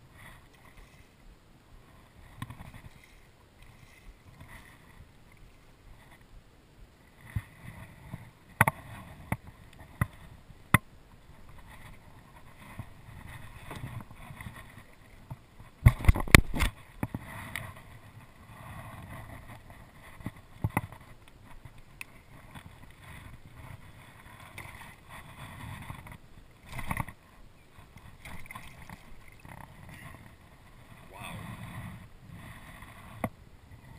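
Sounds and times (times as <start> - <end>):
water lapping against kayak: 0.0 - 33.9.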